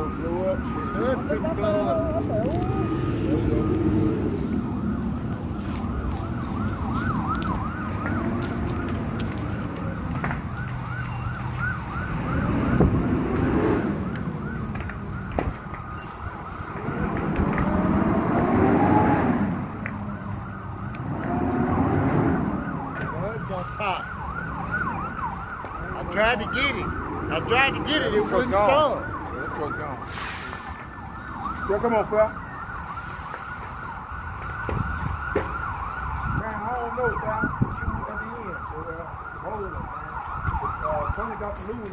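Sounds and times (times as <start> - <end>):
siren wailing: 0.0 - 41.9
siren yelping: 0.0 - 41.9
truck engines rumbling: 0.0 - 41.9.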